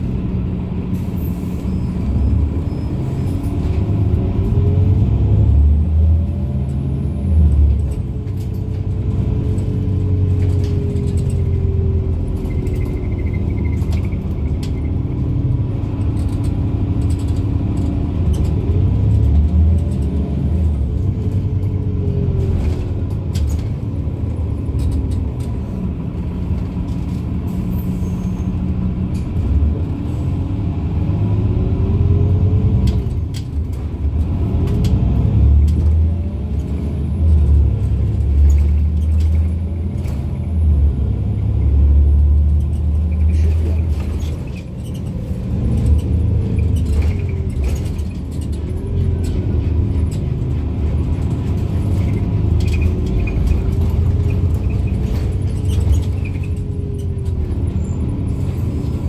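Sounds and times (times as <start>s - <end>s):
bus engine accelerating: 0.0s - 59.0s.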